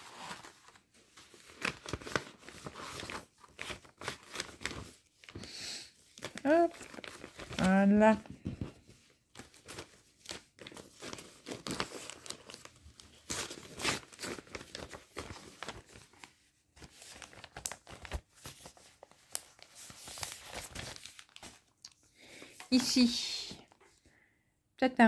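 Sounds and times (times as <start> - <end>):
paper and plastic rustling: 0.0 - 5.4, 6.0 - 24.0.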